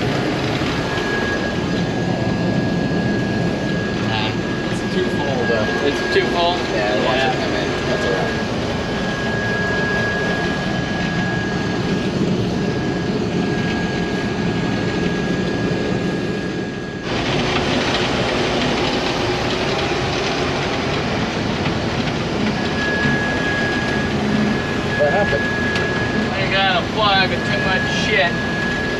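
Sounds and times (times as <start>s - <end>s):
thin high whine: 0.0s - 17.3s, 22.5s - 28.9s
combine harvester running: 0.0s - 28.9s.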